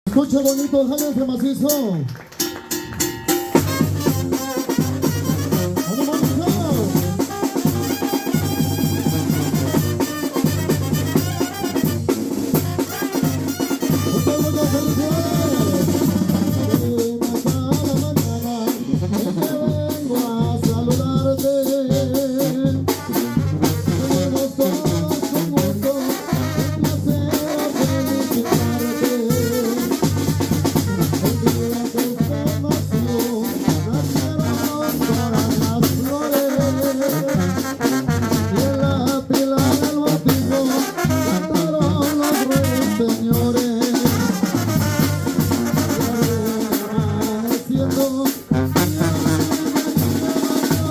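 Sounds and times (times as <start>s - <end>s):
bass drum and snare beat: 0.1s - 50.9s
brass section melody: 2.2s - 50.9s.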